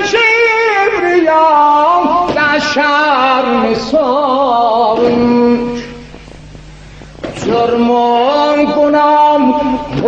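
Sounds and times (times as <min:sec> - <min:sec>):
man singing unaccompanied: 0:00.0 - 0:06.0, 0:07.3 - 0:10.0.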